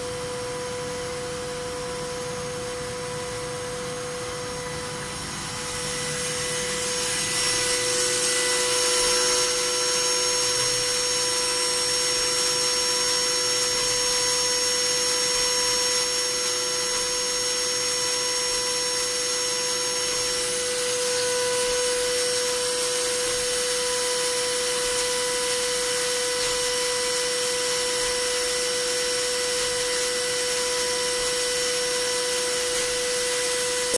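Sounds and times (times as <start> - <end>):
milling machine spindle whine: 0.0 - 33.9.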